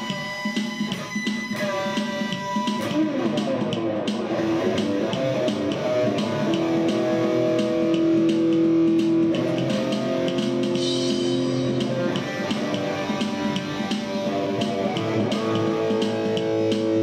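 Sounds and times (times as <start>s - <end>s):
guitar-led music: 0.0s - 17.0s
light beat: 0.0s - 17.0s.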